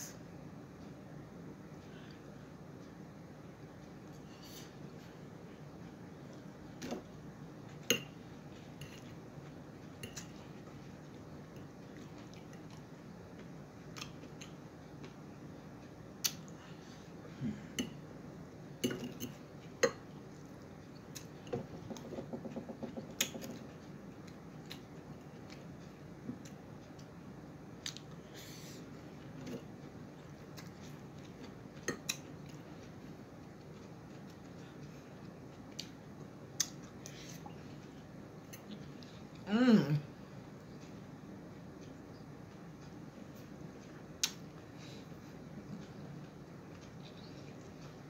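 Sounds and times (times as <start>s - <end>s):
low room hum: 0.0s - 48.0s.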